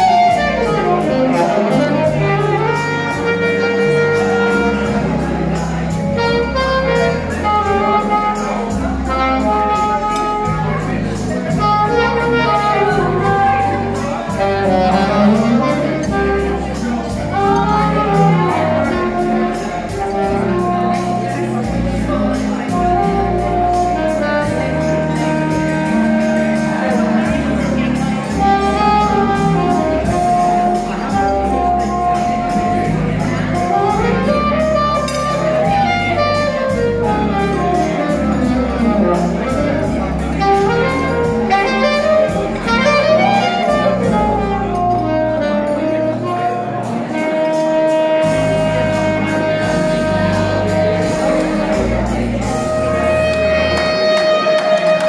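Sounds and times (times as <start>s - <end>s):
backing track with bass and beat: 0.0s - 55.0s
saxophone melody: 0.0s - 55.0s.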